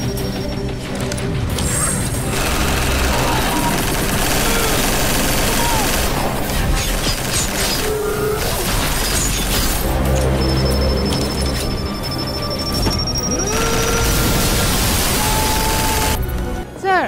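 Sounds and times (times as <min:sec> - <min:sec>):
film soundtrack music: 0:00.0 - 0:17.0.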